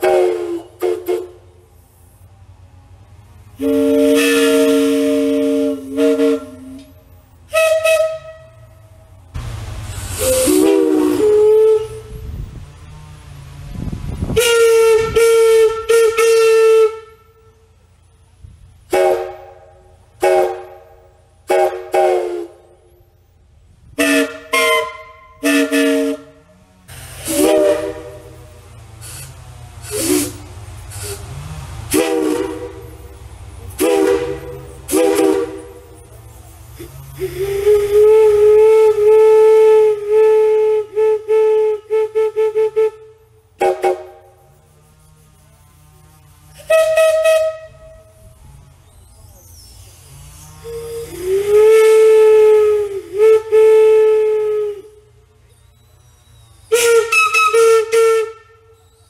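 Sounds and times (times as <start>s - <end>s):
steam whistle blasts and toots: 0.0s - 2.4s, 3.3s - 9.1s, 9.8s - 13.0s, 14.1s - 17.9s, 18.8s - 23.3s, 23.9s - 59.0s.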